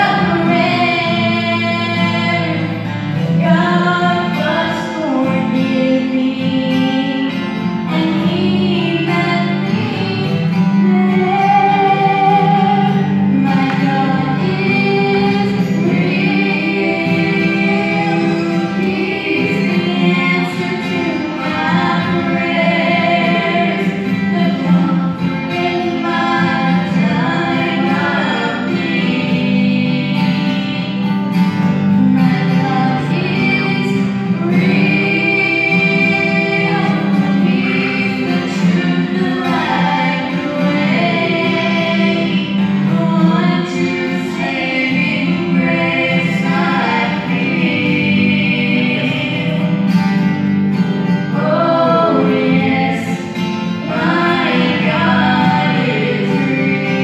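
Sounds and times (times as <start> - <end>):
acoustic guitar: 0.0 - 57.0
woman singing into microphone: 0.0 - 57.0.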